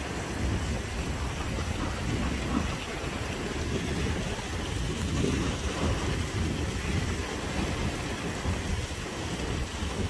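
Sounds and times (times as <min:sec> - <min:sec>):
heavy rain: 0:00.0 - 0:10.0
running water: 0:00.0 - 0:10.0
wind buffeting microphone: 0:00.0 - 0:10.0.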